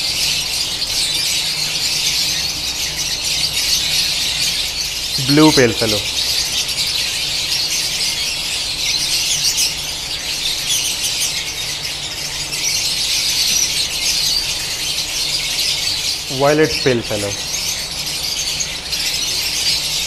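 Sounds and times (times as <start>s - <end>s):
lovebirds chattering: 0.0s - 20.0s.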